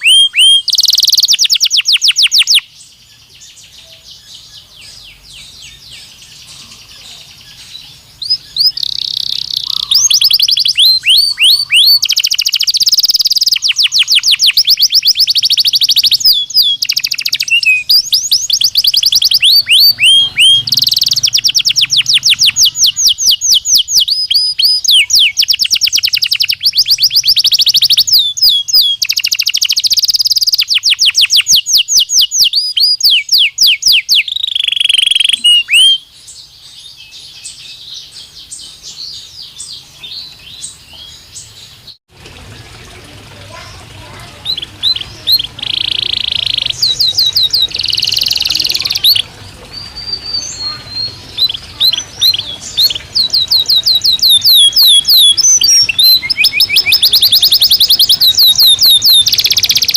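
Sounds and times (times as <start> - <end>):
canary singing trills: 0.0 - 42.0, 43.5 - 59.9.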